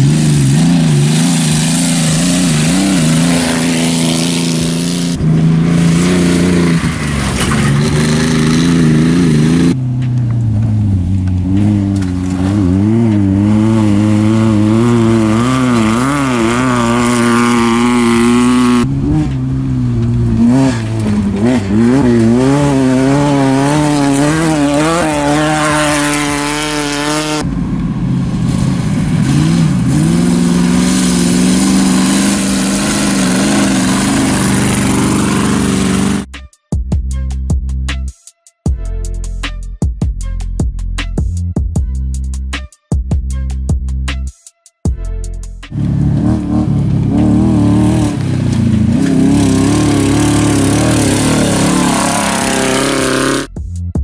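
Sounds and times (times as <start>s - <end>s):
race vehicle engine revving: 0.0s - 36.3s, 45.7s - 53.6s.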